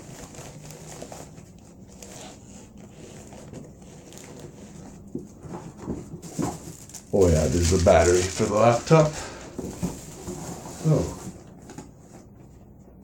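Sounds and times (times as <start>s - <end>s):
rustling laptop packaging: 0.0s - 12.4s.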